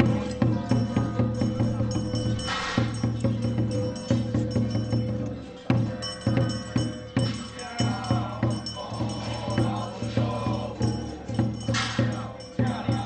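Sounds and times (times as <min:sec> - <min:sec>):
drum beating unevenly: 0:00.0 - 0:13.0
jingling percussion: 0:00.0 - 0:13.0
person chanting: 0:00.0 - 0:13.0.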